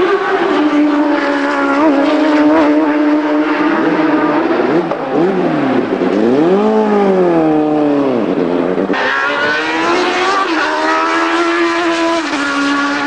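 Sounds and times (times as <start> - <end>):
racing car engine high revs: 0.0 - 13.0.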